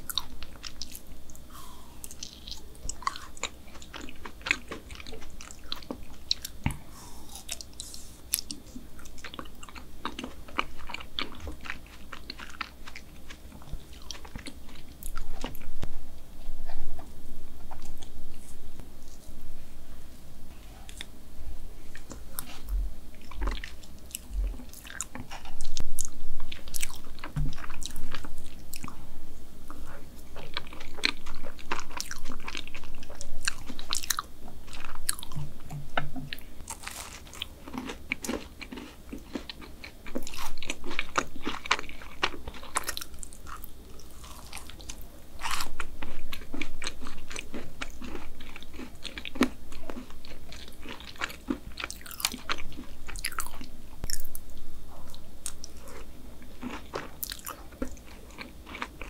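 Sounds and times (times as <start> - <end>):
chewing with soft crunches: 0.0 - 15.9, 21.9 - 29.0, 29.7 - 59.0.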